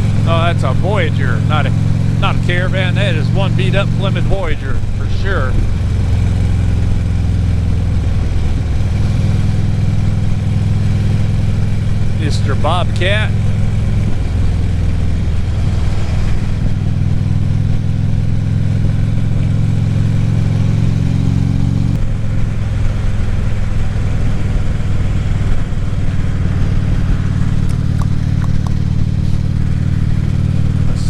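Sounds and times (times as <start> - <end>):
motorcycle engine running: 0.0 - 31.0
road and wind noise: 0.0 - 31.0.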